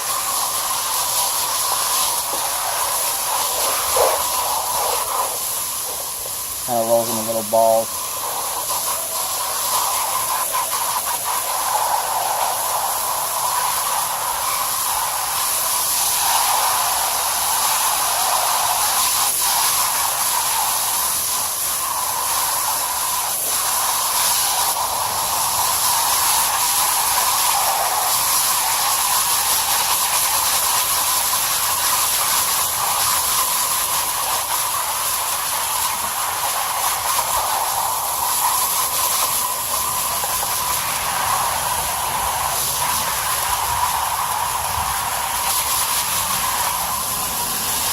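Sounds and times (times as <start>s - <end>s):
garden hose spraying water: 0.0s - 47.9s.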